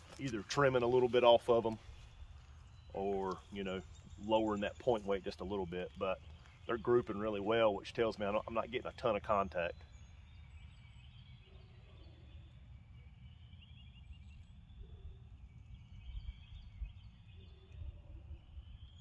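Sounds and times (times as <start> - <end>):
distant bird calls: 0.0 - 19.0.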